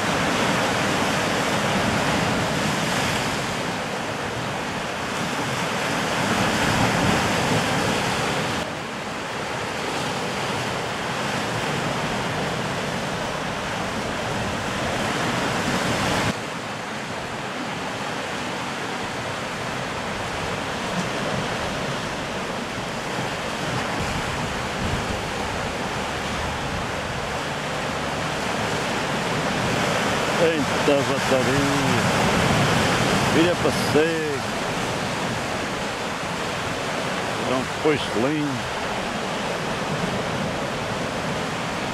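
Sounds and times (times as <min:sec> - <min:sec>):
ocean waves breaking on rocks: 0:00.0 - 0:41.9.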